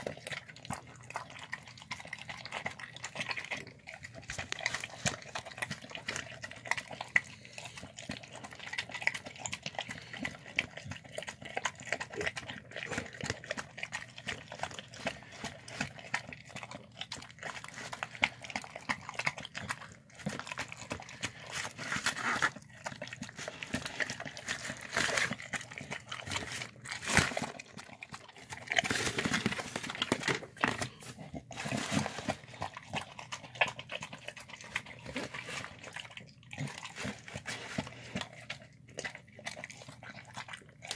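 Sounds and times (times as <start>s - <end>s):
dog slurping and chewing food: 0.0s - 40.9s.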